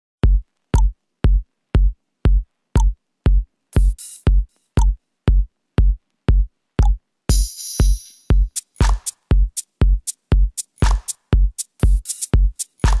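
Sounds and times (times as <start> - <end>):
drum machine kick: 0.2 - 13.0.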